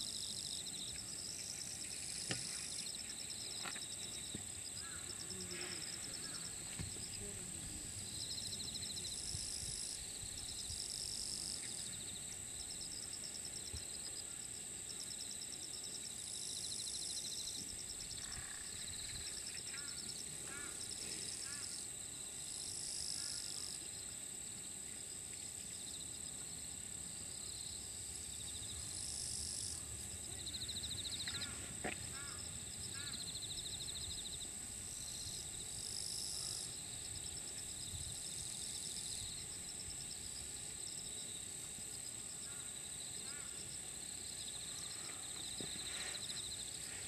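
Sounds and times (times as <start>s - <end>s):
insect chorus: 0.0s - 47.0s.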